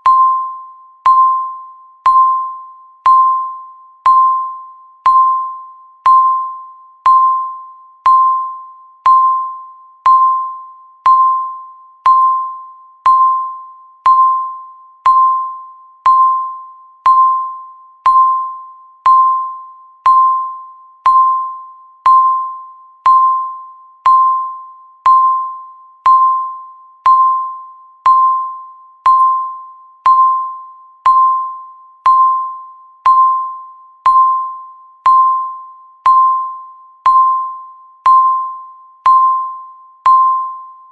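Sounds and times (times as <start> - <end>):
countdown timer beeping: 0.0 - 40.8.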